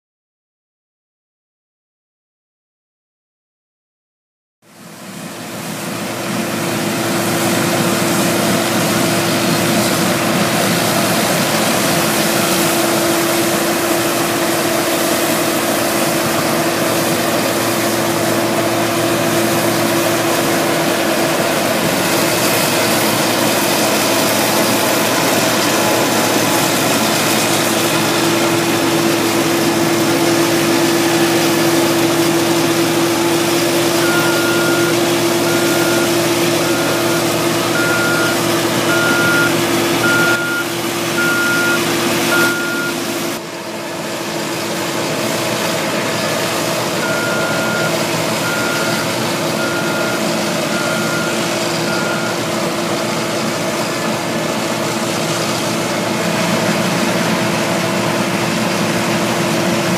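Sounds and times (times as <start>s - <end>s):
combine harvester droning: 4.7s - 59.9s.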